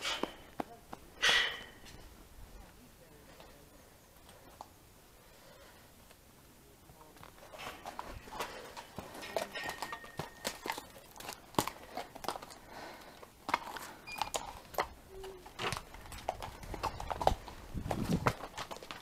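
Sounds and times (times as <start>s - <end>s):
horse hooves and tack clicking: 0.0s - 4.8s, 6.0s - 19.0s.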